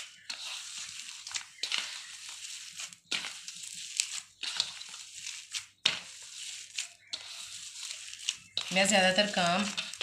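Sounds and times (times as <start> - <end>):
hands squishing mashed potato: 0.0 - 10.0.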